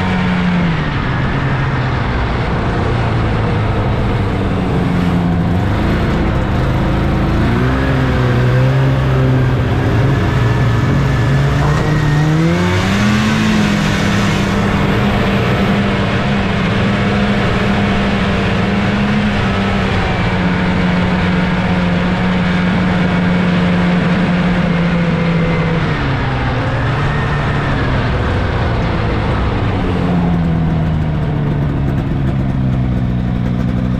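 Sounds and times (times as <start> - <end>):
snowmobile engine running: 0.0 - 33.9.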